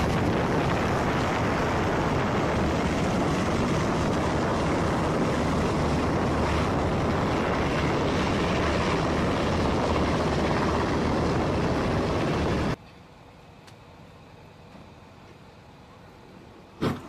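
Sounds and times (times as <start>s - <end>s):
helicopter rotor and turbine noise: 0.0s - 16.8s.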